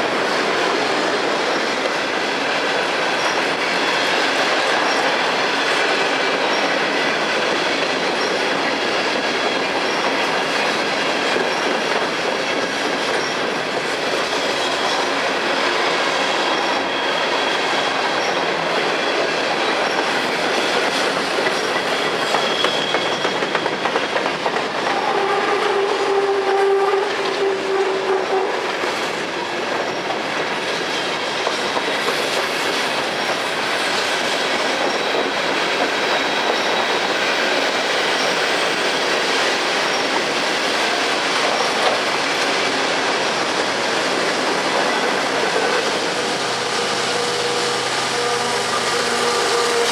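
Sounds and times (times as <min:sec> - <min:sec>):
train wheels clattering over rail joints: 0:00.0 - 0:26.2, 0:28.6 - 0:46.4.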